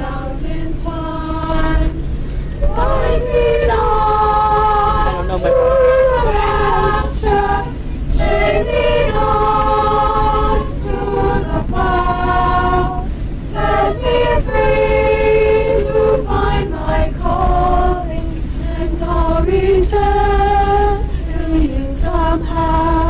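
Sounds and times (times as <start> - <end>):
airplane cabin hum: 0.0 - 23.0
children's choir singing: 0.0 - 23.0.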